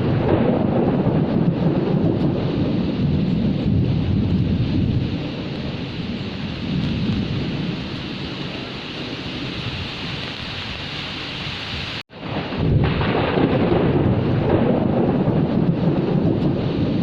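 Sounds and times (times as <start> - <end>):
low thunder rumble: 0.0 - 17.0
steady rain hiss: 0.0 - 17.0.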